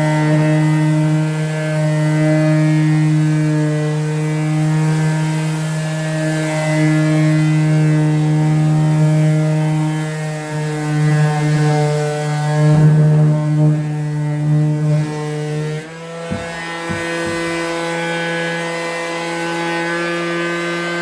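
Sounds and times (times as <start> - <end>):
electric sander running: 0.0 - 21.0.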